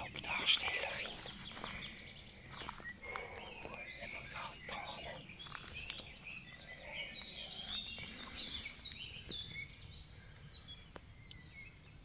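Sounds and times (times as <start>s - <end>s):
small birds singing and chirping: 0.0s - 12.0s.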